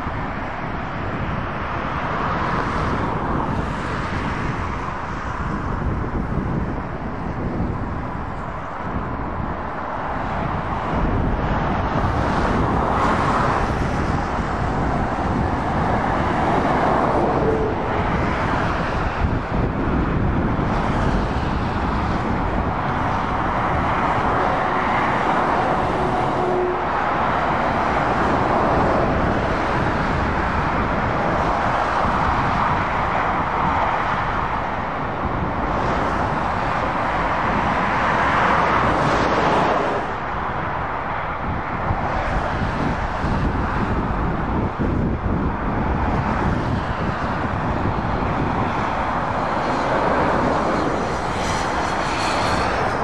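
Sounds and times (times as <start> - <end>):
motorway traffic roar: 0.0 - 53.0.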